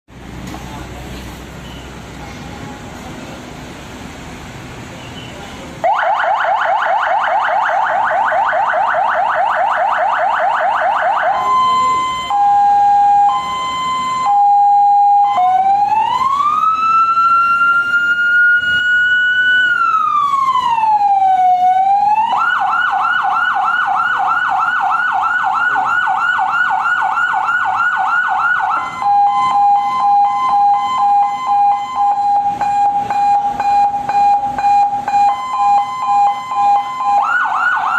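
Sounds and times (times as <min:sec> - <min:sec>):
electronic ambulance siren: 0:05.8 - 0:37.9.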